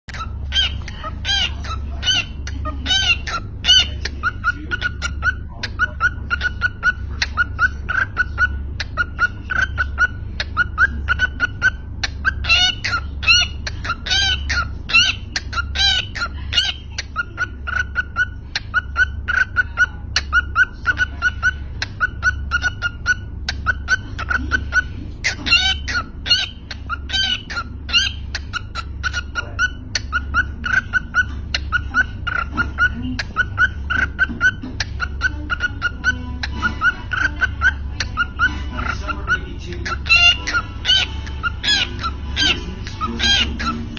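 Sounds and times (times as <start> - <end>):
cockatiel chirping: 0.1 - 43.9
cockatiel warbling chatter: 0.1 - 43.9.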